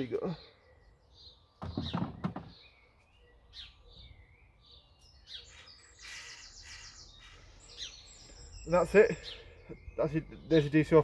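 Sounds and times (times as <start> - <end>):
birds singing and chirping: 0.0 - 11.0.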